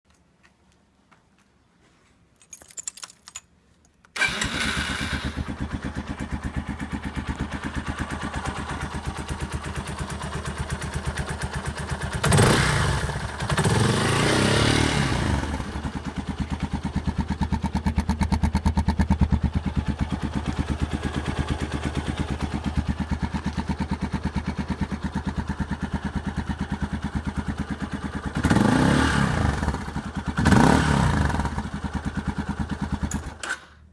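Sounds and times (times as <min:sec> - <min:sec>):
motorcycle engine idling and revving: 0:04.2 - 0:33.4.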